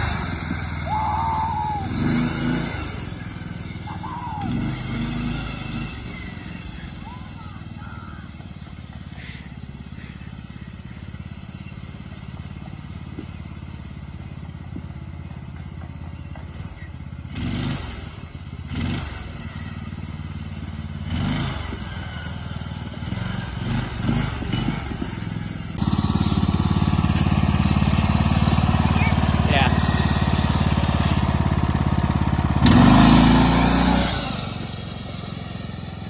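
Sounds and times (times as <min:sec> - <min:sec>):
small mower engine running: 0:00.0 - 0:36.0.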